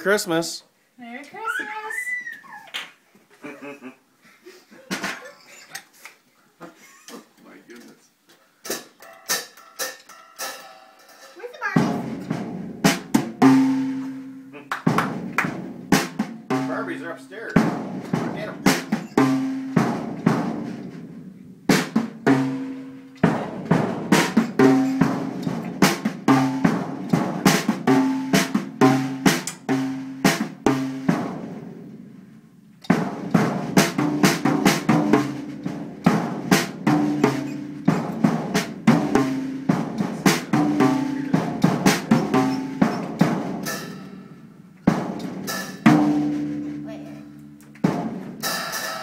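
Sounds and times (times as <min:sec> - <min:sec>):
drum kit played with sticks: 0:04.8 - 0:05.8, 0:06.8 - 0:49.0.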